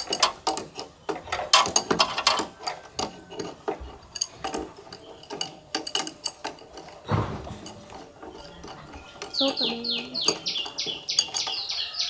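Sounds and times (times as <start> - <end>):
metal tools clinking: 0.0 - 12.0.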